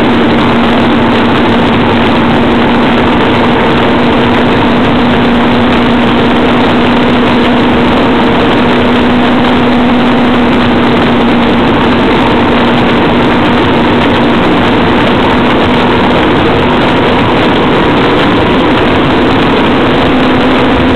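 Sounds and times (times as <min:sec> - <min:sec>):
motorcycle engine running: 0:00.0 - 0:20.9
rushing noise: 0:00.0 - 0:20.9.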